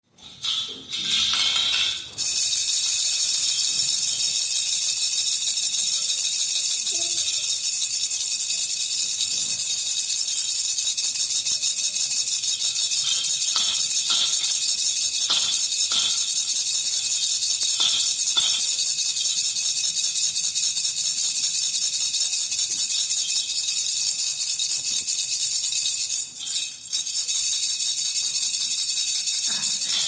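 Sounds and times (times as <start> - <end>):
baby rattle shaking: 0.2 - 30.0.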